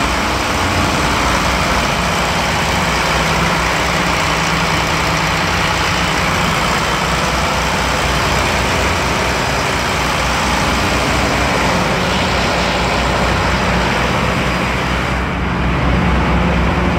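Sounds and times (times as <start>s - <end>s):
ship engines droning: 0.0s - 16.9s.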